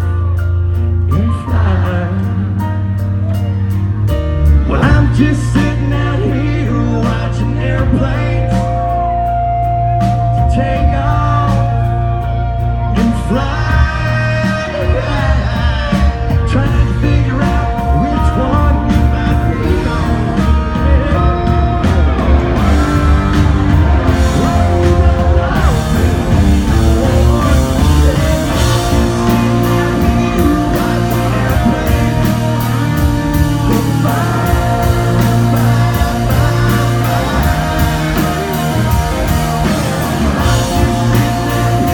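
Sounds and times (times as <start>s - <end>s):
live country band playing: 0.0s - 41.9s
man singing: 0.8s - 3.7s, 4.4s - 41.9s.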